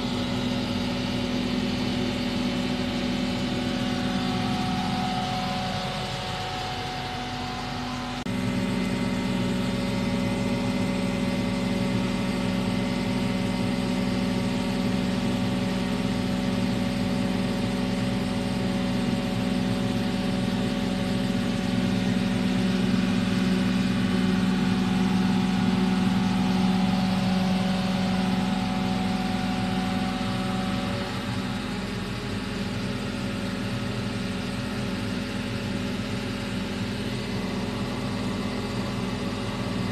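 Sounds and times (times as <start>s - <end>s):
crane diesel engine running: 0.0s - 39.9s.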